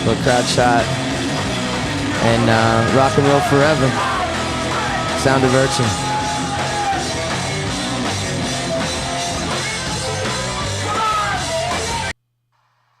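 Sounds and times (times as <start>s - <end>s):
live rock band playing: 0.0s - 12.1s.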